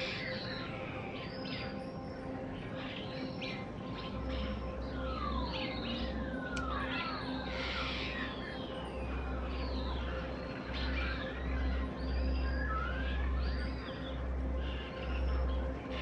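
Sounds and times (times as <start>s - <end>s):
starlings chirping and whistling: 0.0s - 16.0s.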